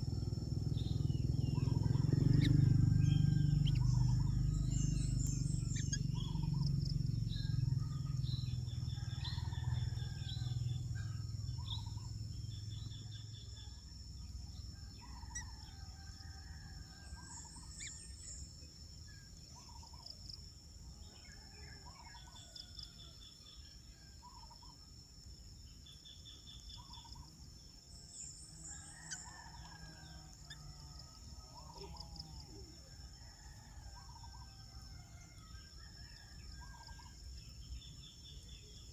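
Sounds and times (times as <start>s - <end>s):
birds chirping and trilling: 0.0s - 24.9s, 25.6s - 38.9s.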